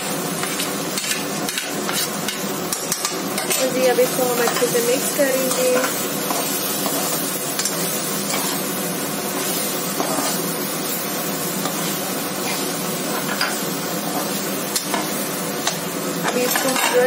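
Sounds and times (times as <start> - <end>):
vegetables sizzling in hot oil: 0.0 - 17.0
spatula scraping pan: 0.4 - 8.7, 9.3 - 10.6, 11.6 - 17.0.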